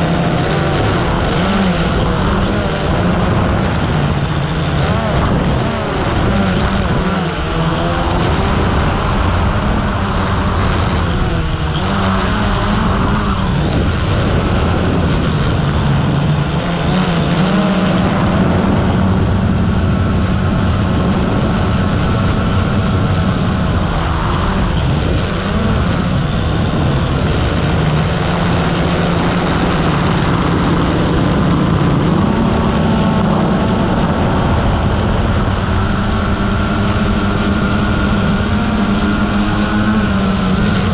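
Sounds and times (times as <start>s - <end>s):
drone propellers buzzing: 0.0s - 40.9s
rushing noise: 0.0s - 40.9s.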